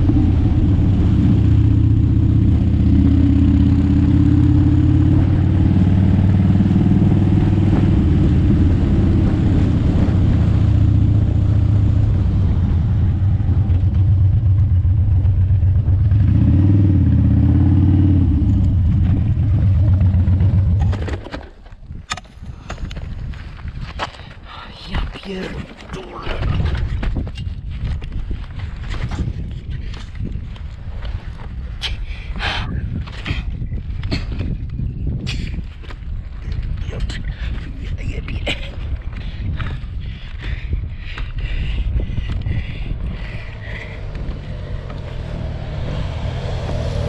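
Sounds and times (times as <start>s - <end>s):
vehicle engine rumbling: 0.0s - 47.0s.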